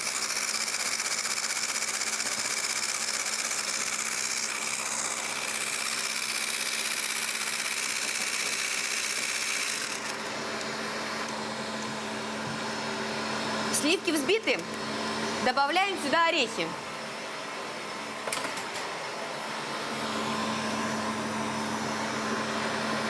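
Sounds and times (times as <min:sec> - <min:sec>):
electric mixer whirring: 0:00.0 - 0:15.5, 0:19.6 - 0:23.0.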